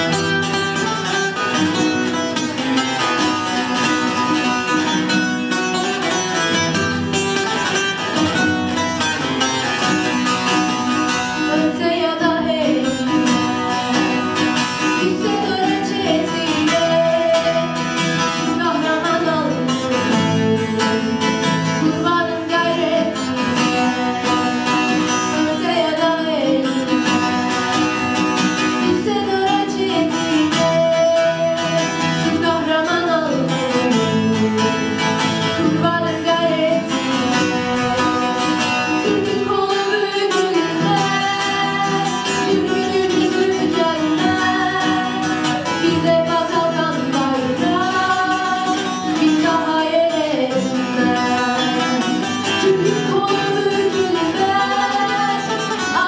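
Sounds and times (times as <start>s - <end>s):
acoustic guitar: 0.0s - 56.0s
lute strumming: 0.0s - 56.0s
woman singing: 9.5s - 56.0s.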